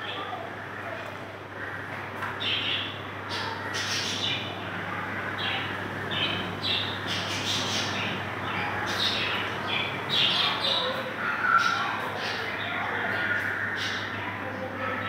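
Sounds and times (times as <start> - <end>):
high squawking bird calls: 1.6 - 14.4.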